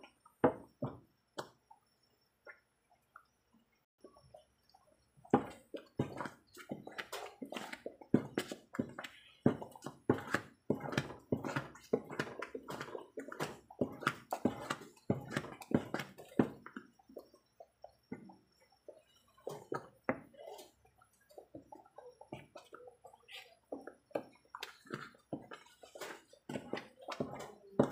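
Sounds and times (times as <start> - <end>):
spatula stirring thick paste: 0.0 - 1.9, 4.1 - 27.9.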